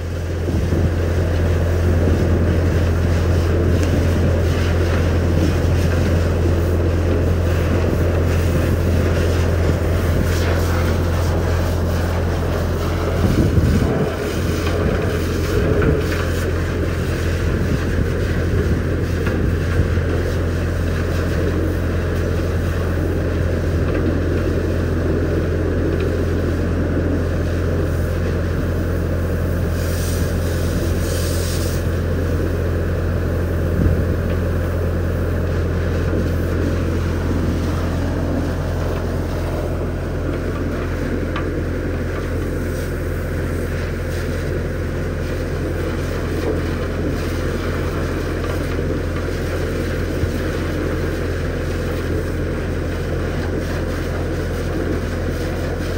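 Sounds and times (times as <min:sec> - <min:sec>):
low engine drone: 0:00.0 - 0:55.9
water jet spraying in steel tank: 0:00.0 - 0:55.9.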